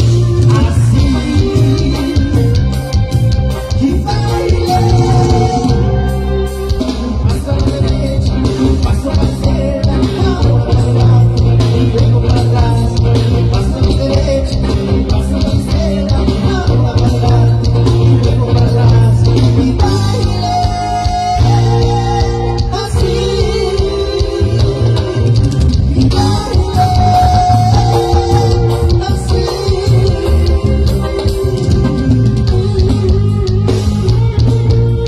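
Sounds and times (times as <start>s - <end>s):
band playing dance song: 0.0s - 35.0s
person singing: 0.0s - 35.0s.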